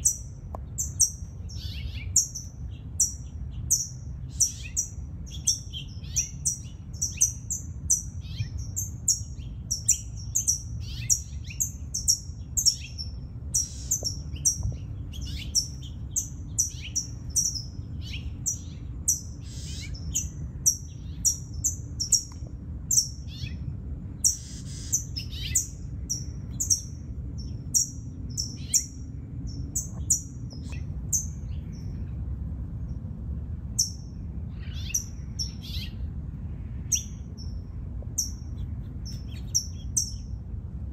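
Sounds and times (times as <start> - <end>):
small birds chirping: 0.0 - 32.2, 33.7 - 36.1, 36.8 - 40.4
low steady rumble: 0.0 - 40.9.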